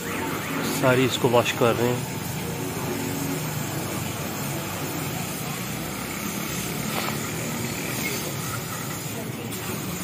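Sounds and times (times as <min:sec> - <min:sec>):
hose water jet spraying car: 0:00.0 - 0:10.0.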